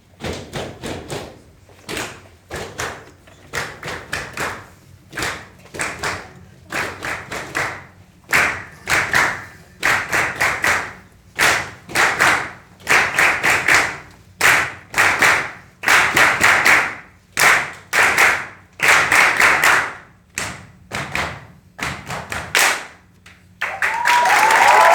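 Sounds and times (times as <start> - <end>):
hands clapping rhythmically: 1.9 - 24.9.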